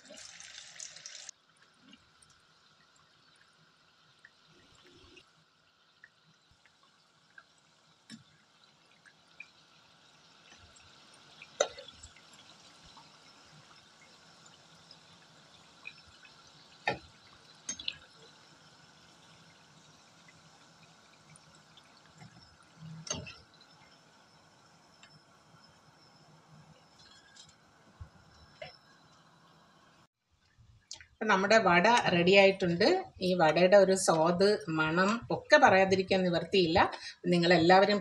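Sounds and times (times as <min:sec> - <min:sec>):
food deep-frying in oil: 0:00.0 - 0:38.0.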